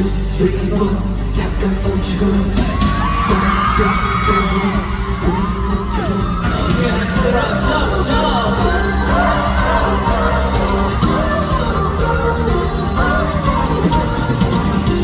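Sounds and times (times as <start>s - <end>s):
high gliding vocals: 0.0s - 15.0s
loud live pop music: 0.0s - 15.0s.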